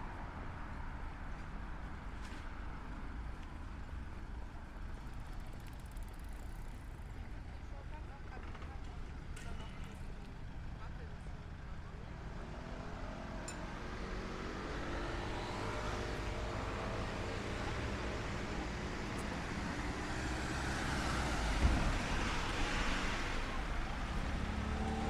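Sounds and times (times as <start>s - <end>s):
road traffic hum: 0.0s - 25.0s.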